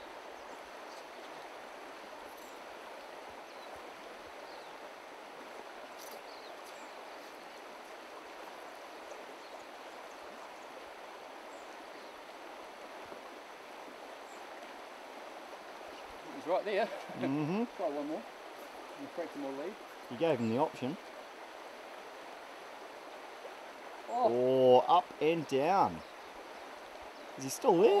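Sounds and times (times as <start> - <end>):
stream flowing over stones: 0.0 - 28.0.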